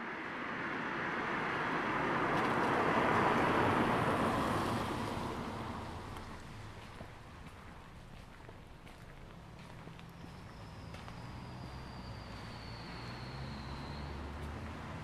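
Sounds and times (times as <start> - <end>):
car passing by: 0.0 - 7.8, 9.4 - 15.0.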